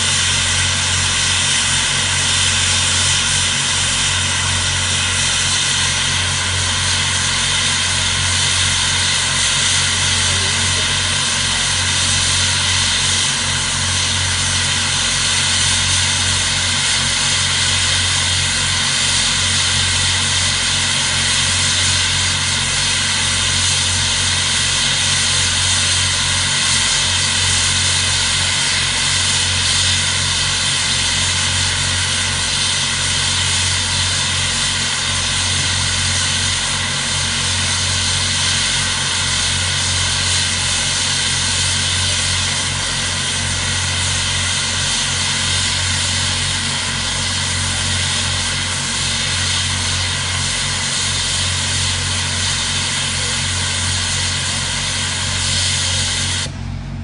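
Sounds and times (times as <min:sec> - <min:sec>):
steam locomotive hum and hiss: 0:00.0 - 0:57.0.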